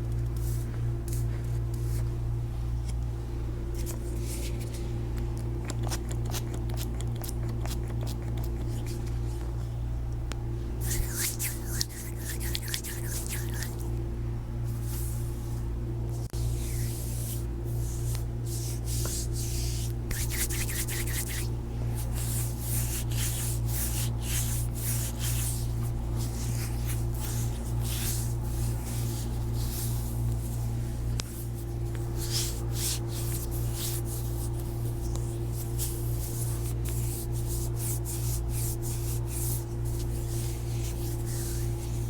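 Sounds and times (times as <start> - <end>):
steady low hum: 0.0 - 42.0
hands rubbing skin: 3.8 - 9.6, 10.8 - 13.9, 14.7 - 15.5, 16.2 - 42.0.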